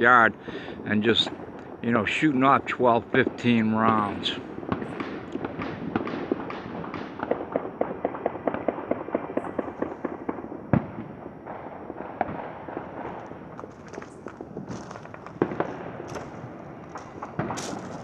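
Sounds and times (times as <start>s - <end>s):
distant fireworks bangs and pops: 0.0s - 18.0s
celebratory gunfire: 0.4s - 18.0s.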